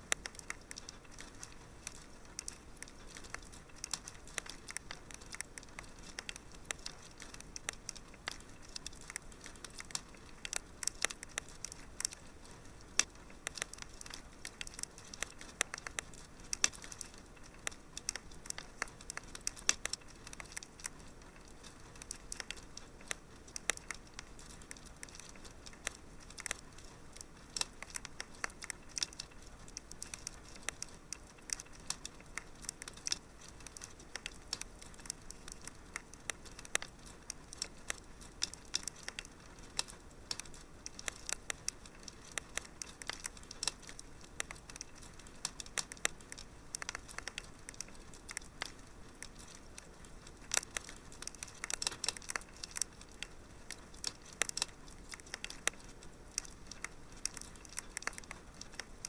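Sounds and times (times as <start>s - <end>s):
soft hiss of flame: 0.0s - 59.0s
wood fire crackling: 0.0s - 59.0s.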